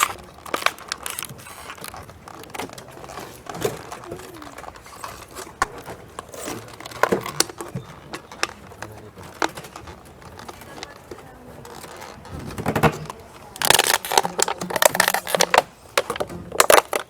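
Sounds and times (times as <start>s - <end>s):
plastic crinkling: 0.0s - 17.0s.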